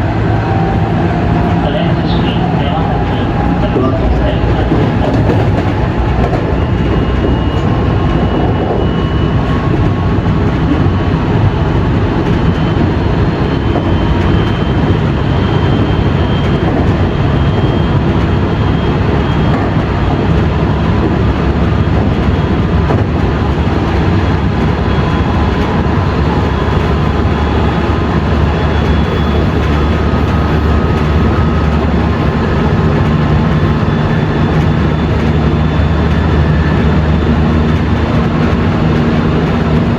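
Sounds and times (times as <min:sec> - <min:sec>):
electric train rumbling: 0:00.0 - 0:39.9.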